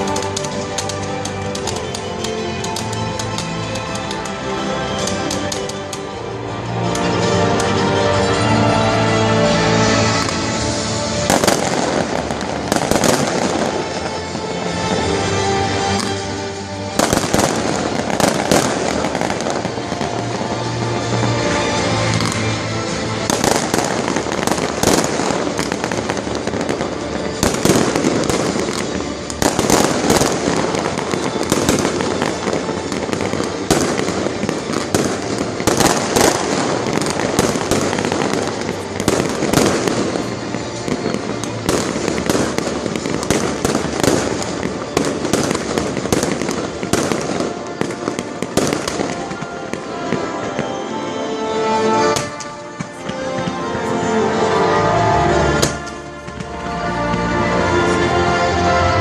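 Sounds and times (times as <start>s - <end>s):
fireworks bangs and crackling: 0.0s - 59.0s
music playing: 0.0s - 59.0s.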